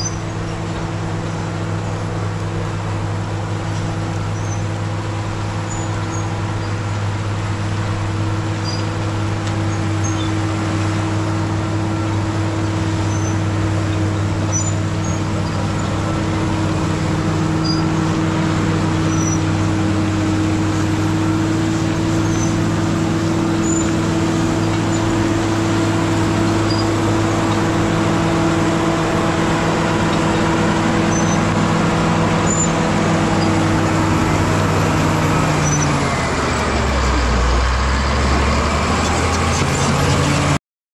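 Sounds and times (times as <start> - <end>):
dozer diesel engine running: 0.0 - 40.6.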